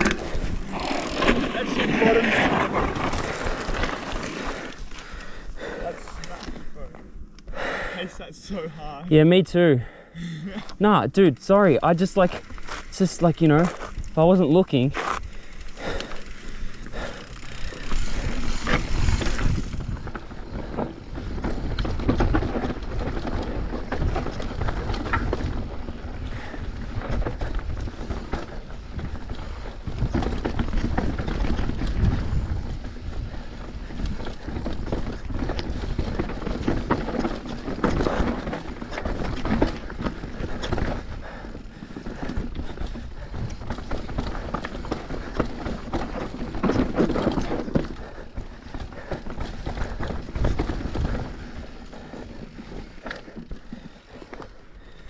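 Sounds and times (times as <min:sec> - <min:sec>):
tyre and wind noise: 0:00.0 - 0:07.1, 0:10.9 - 0:55.0
bike knocking and rattling: 0:00.0 - 0:07.3, 0:11.4 - 0:55.0.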